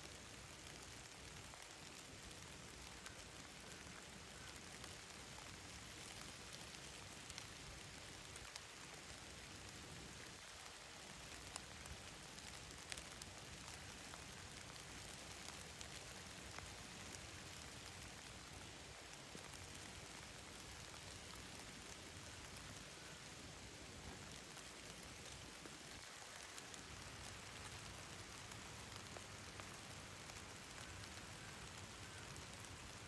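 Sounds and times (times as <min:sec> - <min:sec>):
steady hiss: 0:00.0 - 0:33.0.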